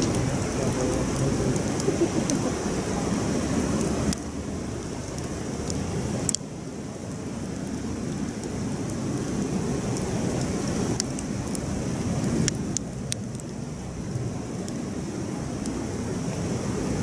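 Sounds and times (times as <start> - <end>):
campfire flames roaring: 0.0 - 17.0
fire crackles and pops: 0.0 - 17.0.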